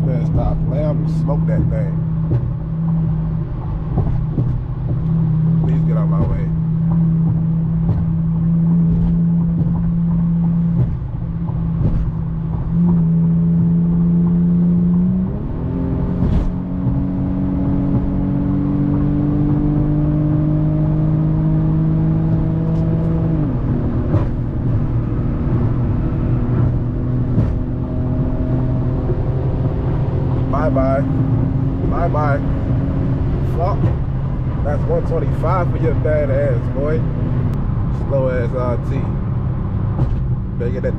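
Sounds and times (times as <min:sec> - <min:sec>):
car engine at highway speed: 0:00.0 - 0:40.9.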